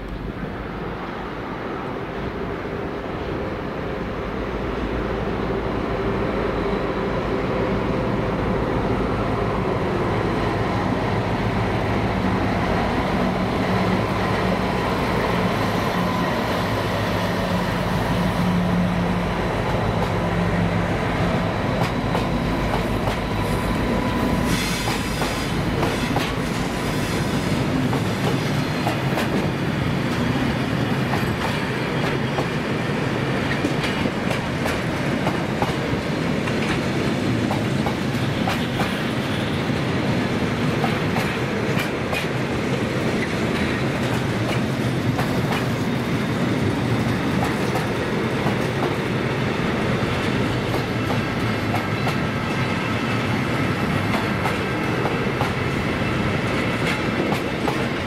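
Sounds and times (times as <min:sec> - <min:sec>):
diesel locomotive engine working: 0:00.0 - 0:58.0
wheels clickety-clack over rail joints: 0:11.4 - 0:58.0.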